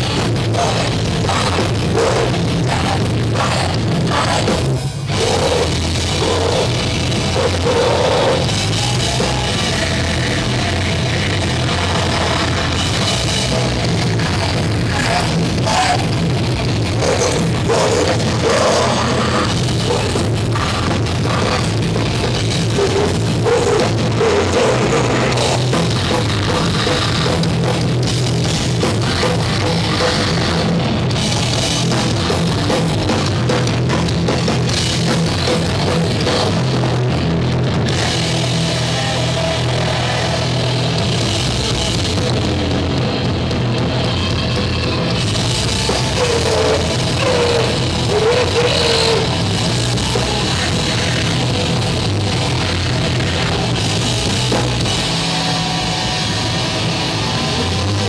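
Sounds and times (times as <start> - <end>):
distorted electric guitar: 0.0 - 58.0
live metal band playing: 0.0 - 58.0
pounding drum kit: 0.0 - 58.0.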